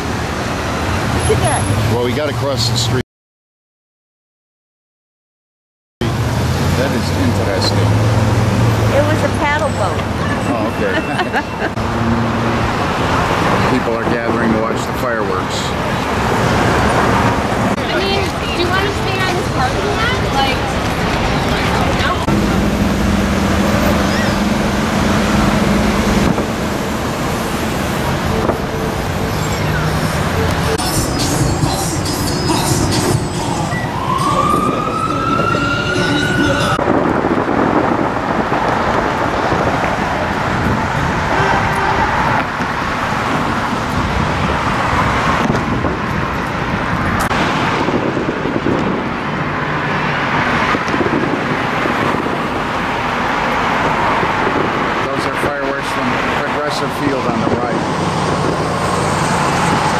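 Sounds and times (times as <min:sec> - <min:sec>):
tyres on the road: 0:00.0 - 0:03.0, 0:06.0 - 0:59.9
car engines running: 0:06.0 - 0:35.3, 0:36.0 - 0:59.9.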